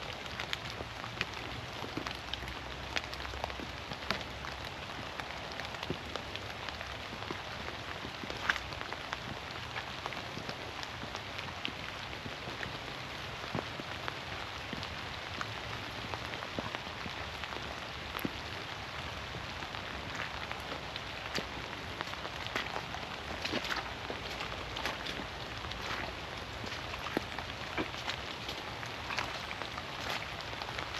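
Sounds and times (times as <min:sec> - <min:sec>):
rain patter in forest: 0:00.0 - 0:30.9
sharp raindrop ticks: 0:00.1 - 0:30.9.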